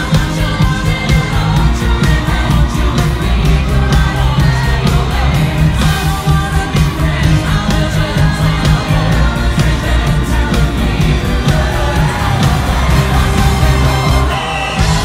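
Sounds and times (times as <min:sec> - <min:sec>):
drum beat and heavy bass: 0:00.0 - 0:15.0
person singing: 0:00.0 - 0:15.0.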